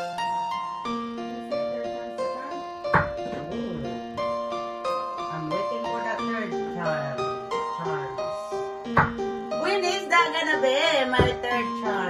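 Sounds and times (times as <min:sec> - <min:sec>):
keyboard melody of held notes: 0:00.0 - 0:12.0.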